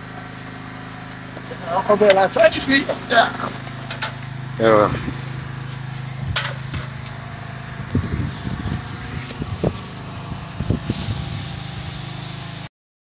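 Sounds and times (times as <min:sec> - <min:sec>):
low mechanical hum: 0:00.0 - 0:12.7.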